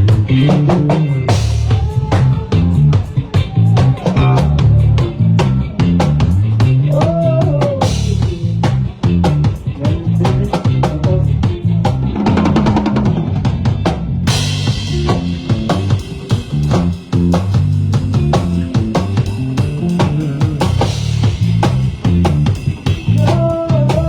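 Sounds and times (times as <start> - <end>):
bass guitar line: 0.0 - 24.0
drum kit beat: 0.0 - 24.0.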